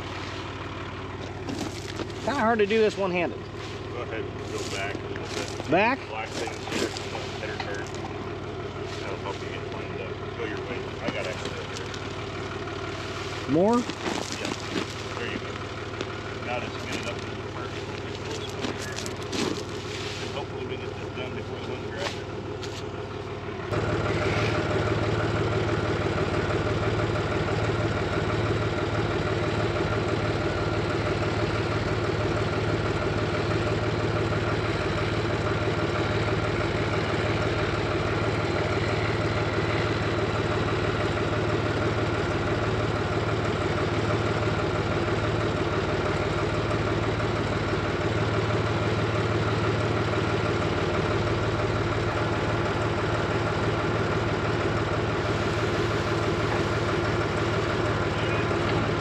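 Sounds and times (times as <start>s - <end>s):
diesel engine running steadily: 0.0s - 59.0s.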